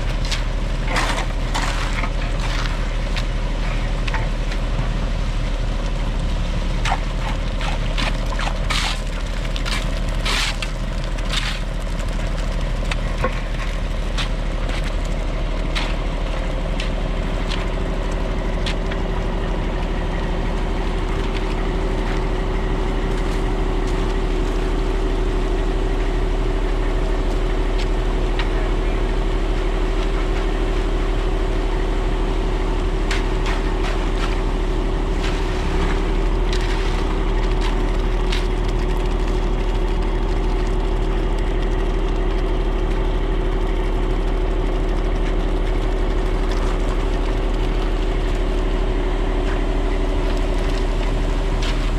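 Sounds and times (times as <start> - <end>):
engine running: 0.0 - 51.9.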